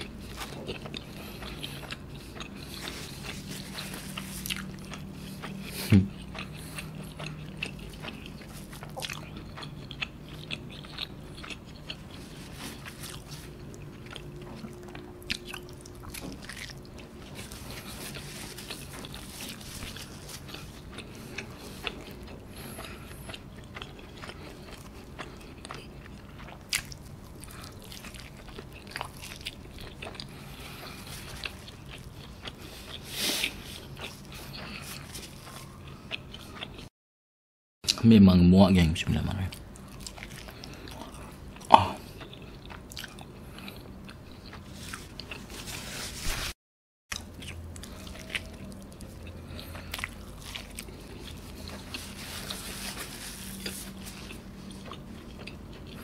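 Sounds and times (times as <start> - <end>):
chewing and biting pizza: 0.0 - 36.9, 39.4 - 46.5, 47.1 - 56.0.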